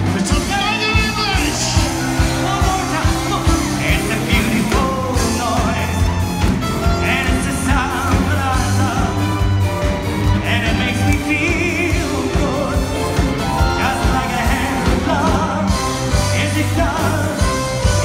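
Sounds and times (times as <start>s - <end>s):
live band playing: 0.0s - 18.0s
steady drum beat: 0.0s - 18.0s.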